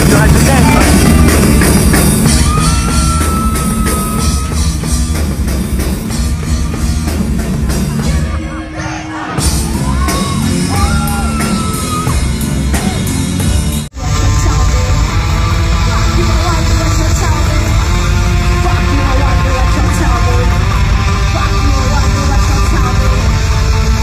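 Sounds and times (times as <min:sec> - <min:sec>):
live heavy metal band: 0:00.0 - 0:24.0.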